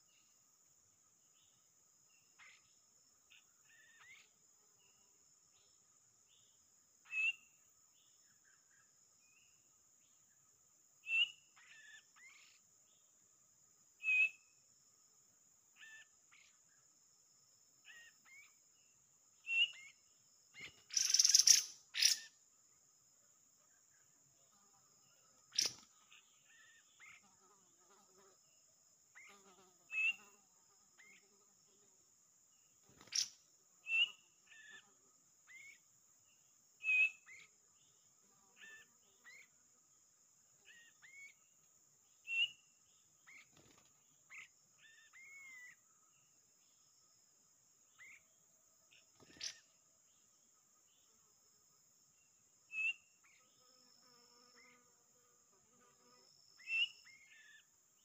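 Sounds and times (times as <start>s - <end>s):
high insect drone: 0.0s - 58.0s
songbird chirping: 0.0s - 58.0s.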